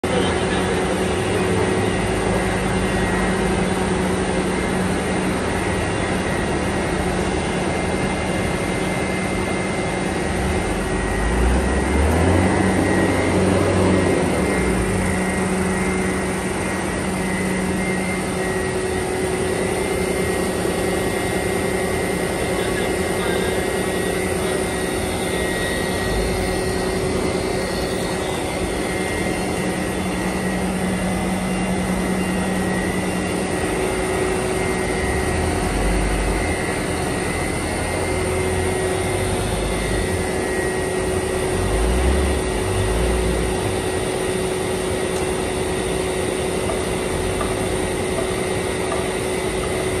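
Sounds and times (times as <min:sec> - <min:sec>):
high machine whine: 0:00.0 - 0:50.0
machinery droning and humming: 0:00.0 - 0:50.0.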